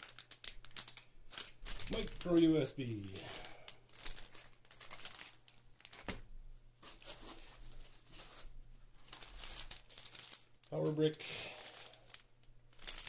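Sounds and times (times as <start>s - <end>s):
plastic bags crinkling: 0.0s - 6.2s, 6.8s - 13.0s.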